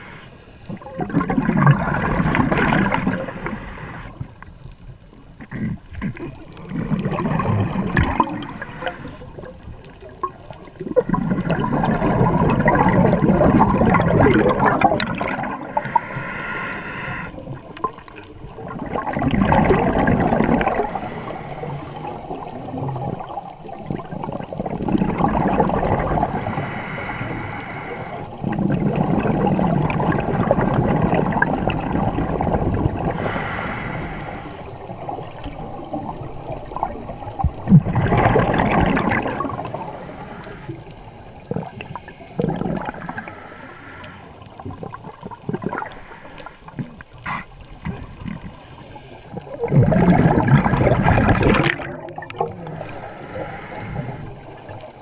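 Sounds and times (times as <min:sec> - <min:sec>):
underwater bubbles from breathing: 0:00.0 - 0:55.0.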